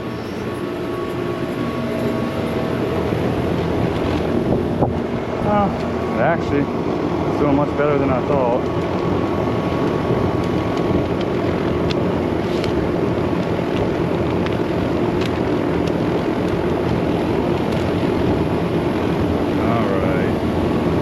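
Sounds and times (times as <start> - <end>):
air conditioner unit humming: 0.0 - 21.0.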